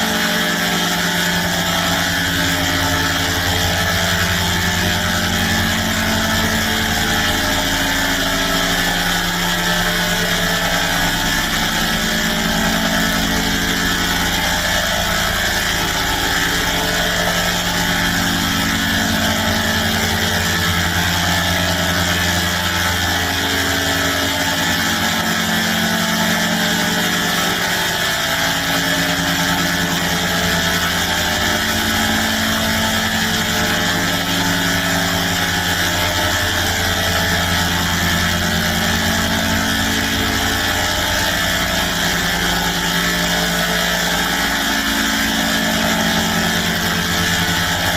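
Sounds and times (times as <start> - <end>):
electronic chord drone: 0.0 - 47.9.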